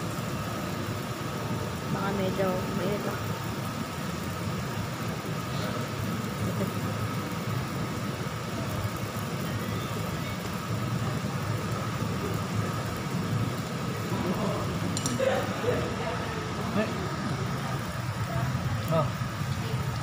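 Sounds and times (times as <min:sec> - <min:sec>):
faint steady whine: 0:00.0 - 0:20.0
ventilation fan hum: 0:00.0 - 0:20.0.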